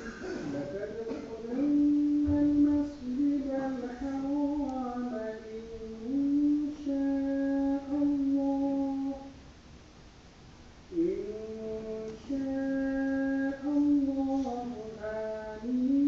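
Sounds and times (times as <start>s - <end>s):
person chanting verses: 0.0s - 9.3s, 10.9s - 16.0s.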